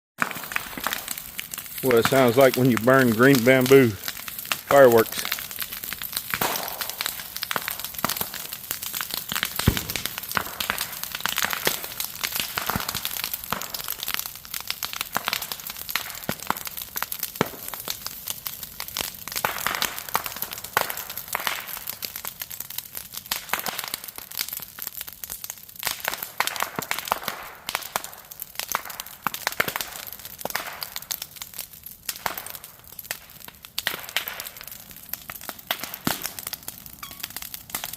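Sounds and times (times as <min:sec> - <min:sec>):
bamboo fire crackling and popping: 0:00.2 - 0:37.9.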